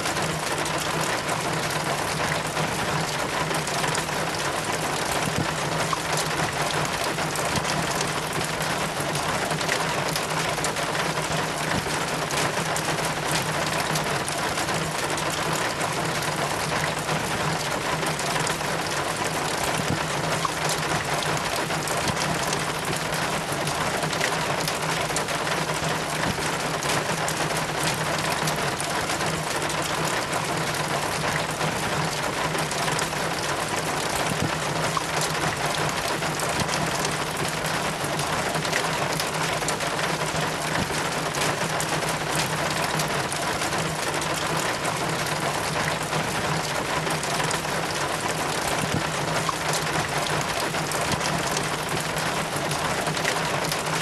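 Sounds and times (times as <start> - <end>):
steady rain: 0.0 - 54.0
water dripping down metal chain: 0.0 - 54.0.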